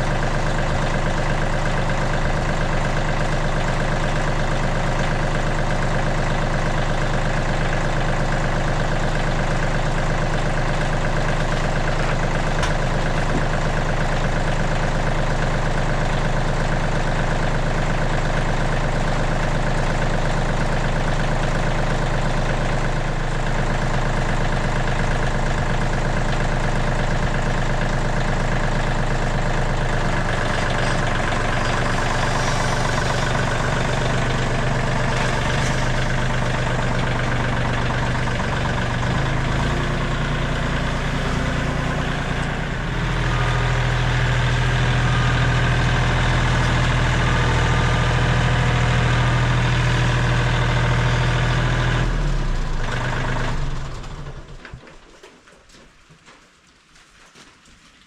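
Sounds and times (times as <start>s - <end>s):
engine running: 0.0s - 54.8s.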